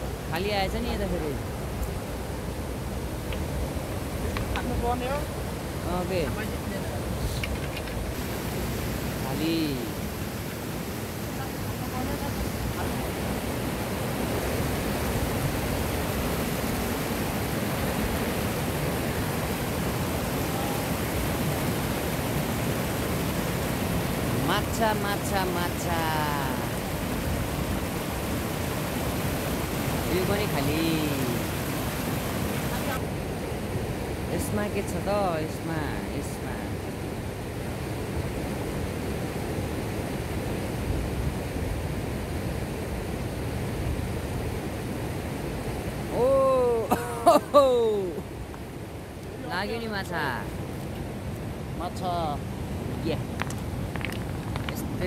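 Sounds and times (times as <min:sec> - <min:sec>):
mountain river rushing: 0:00.0 - 0:55.0.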